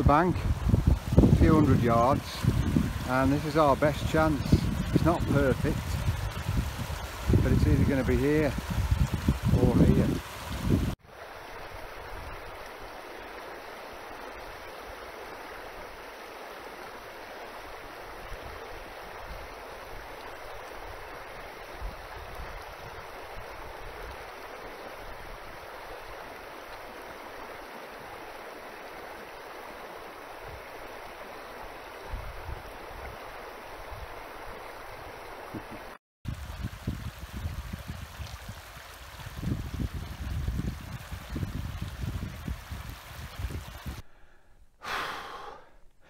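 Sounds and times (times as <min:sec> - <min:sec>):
stream rushing over stones: 0:00.0 - 0:44.0.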